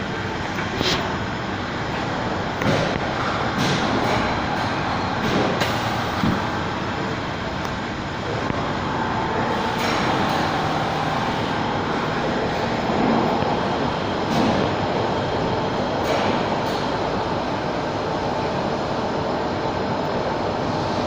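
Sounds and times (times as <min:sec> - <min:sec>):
machinery rumbling: 0:00.0 - 0:21.0.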